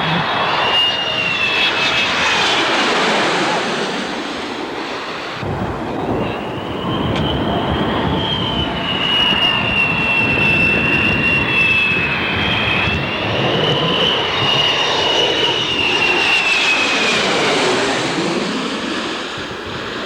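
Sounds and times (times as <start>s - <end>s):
high wavering jet whine: 0.0s - 20.0s
jet fighters passing: 0.0s - 20.0s.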